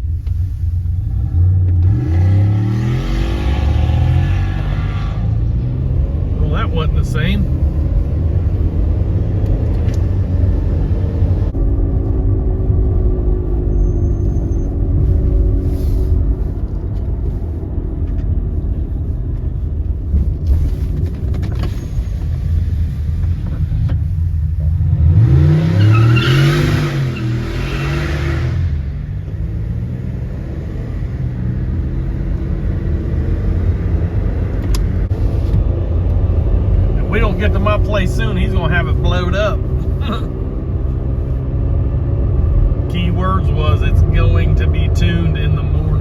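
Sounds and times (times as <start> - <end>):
car engine rumbling and revving: 0.0 - 46.0.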